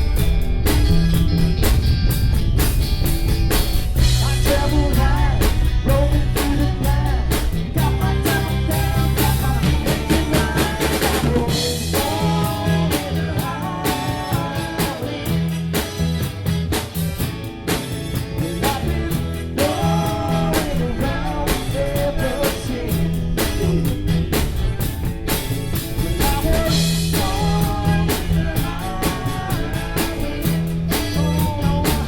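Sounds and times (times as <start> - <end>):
drum kit beat: 0.0 - 32.0
live rock band playing: 0.0 - 32.0.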